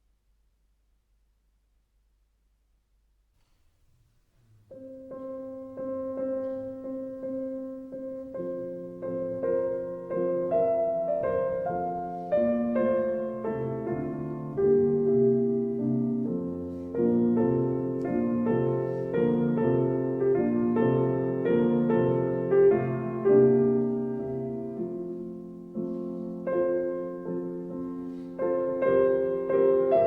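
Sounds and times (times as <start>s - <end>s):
solo piano music: 4.4s - 30.0s.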